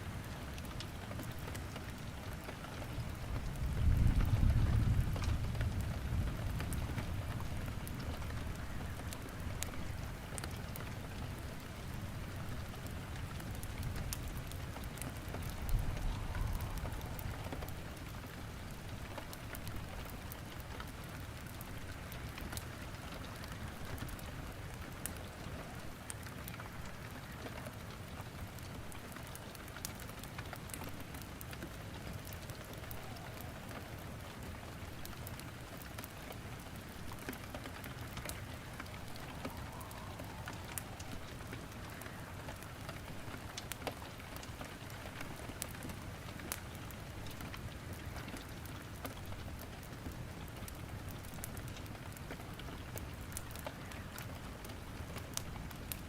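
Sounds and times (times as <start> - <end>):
steady rain falling: 0.0 - 56.0
wood crackling in fireplace: 0.0 - 56.0.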